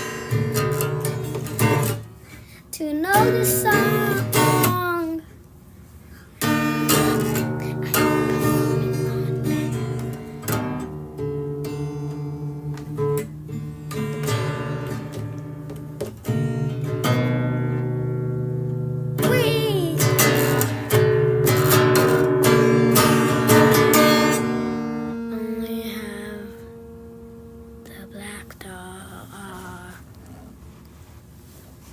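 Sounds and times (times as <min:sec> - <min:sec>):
acoustic guitar strumming chords: 0:00.0 - 0:05.2, 0:06.4 - 0:29.9.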